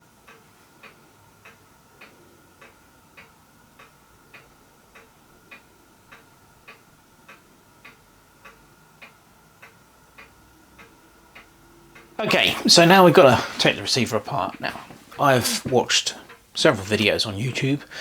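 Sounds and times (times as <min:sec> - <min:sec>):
clock ticking: 0:00.0 - 0:18.0.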